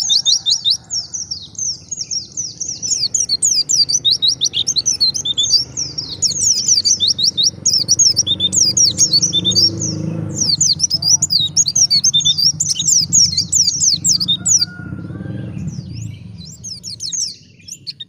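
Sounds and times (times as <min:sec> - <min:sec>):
bird twittering chirps: 0:00.0 - 0:18.0.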